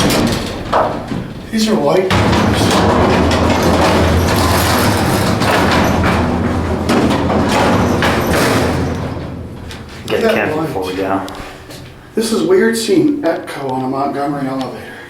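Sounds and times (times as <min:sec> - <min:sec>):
knocks: 0:00.0 - 0:12.2
elevator doors sliding rumble: 0:00.0 - 0:12.5.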